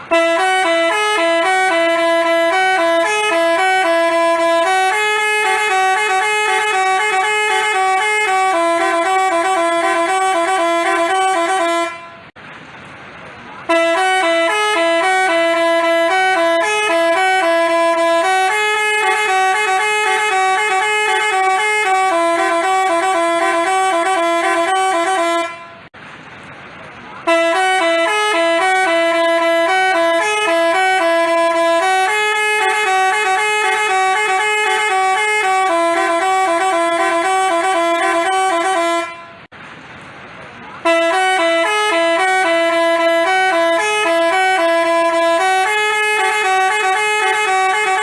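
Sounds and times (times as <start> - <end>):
bus horn playing a melody: 0.0 - 12.4, 13.6 - 26.0, 27.2 - 39.5, 40.8 - 48.0.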